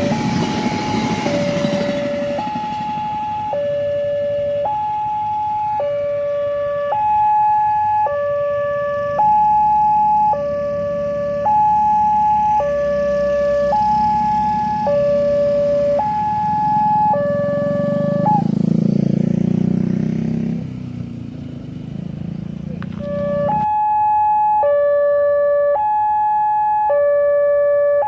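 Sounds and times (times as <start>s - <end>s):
two-tone crossing alarm: 0.0s - 18.6s, 23.0s - 28.0s
motorcycle engines: 0.0s - 28.0s.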